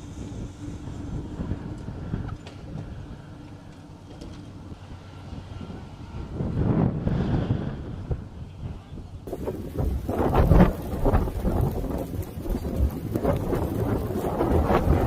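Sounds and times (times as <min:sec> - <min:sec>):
storm wind roaring: 0:00.0 - 0:15.0
wind buffeting microphone: 0:00.0 - 0:15.0.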